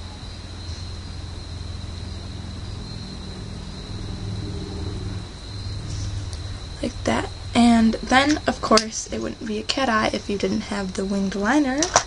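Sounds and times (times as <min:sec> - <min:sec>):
even hiss: 0:00.0 - 0:12.0
faint high-pitched whine: 0:00.0 - 0:12.0
low rumble and hum: 0:00.0 - 0:12.0.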